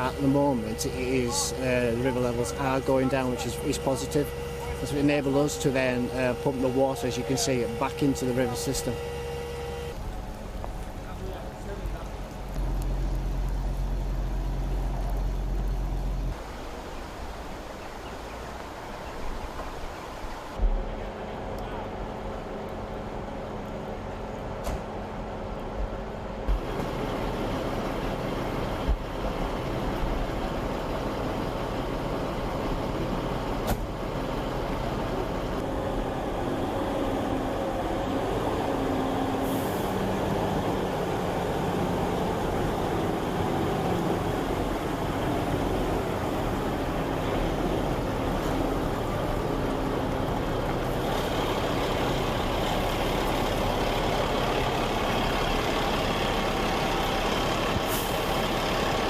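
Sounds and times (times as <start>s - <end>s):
heavy engine running: 0.0s - 16.4s, 20.6s - 59.0s.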